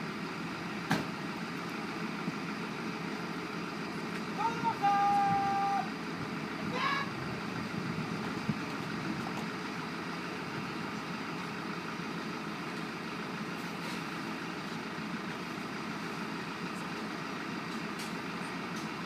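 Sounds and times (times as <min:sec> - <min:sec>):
pump engine droning: 0:00.0 - 0:19.0.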